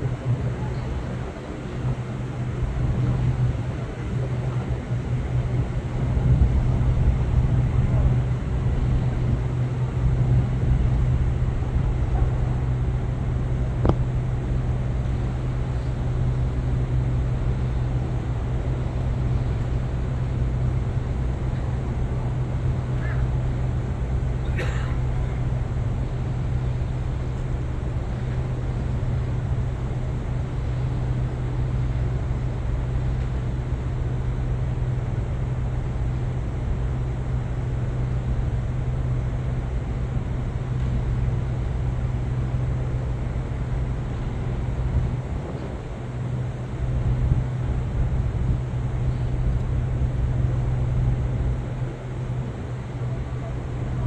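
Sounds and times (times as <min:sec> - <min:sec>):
ship machinery humming: 0:00.0 - 0:54.0.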